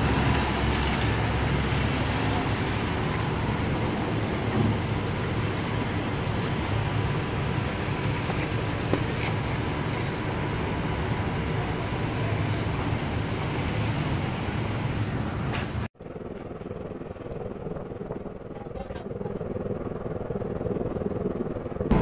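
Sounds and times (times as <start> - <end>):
car engine and tyres hum: 0.0 - 22.0
steady outdoor hiss: 0.0 - 22.0.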